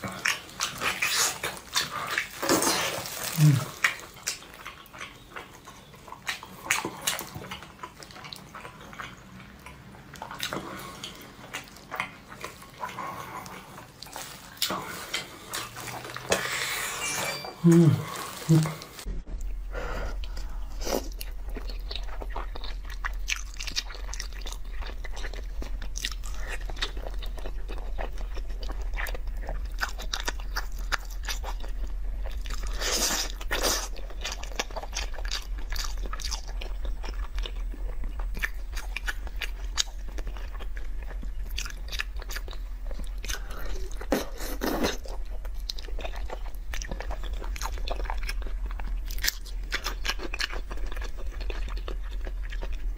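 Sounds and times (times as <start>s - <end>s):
person chewing meat: 0.0s - 16.8s, 17.6s - 52.9s.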